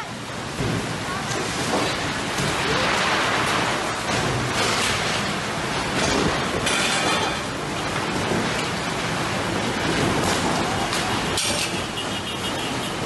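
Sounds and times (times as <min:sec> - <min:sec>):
driving rain: 0:00.0 - 0:13.0
strong wind: 0:00.0 - 0:13.0.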